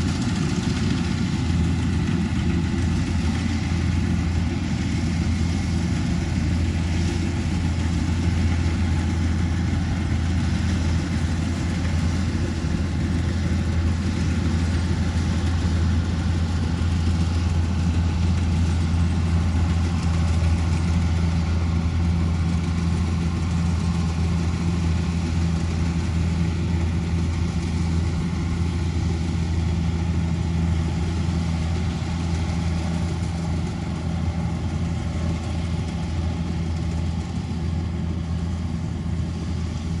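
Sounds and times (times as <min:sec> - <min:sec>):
diesel engine humming: 0:00.0 - 0:40.0.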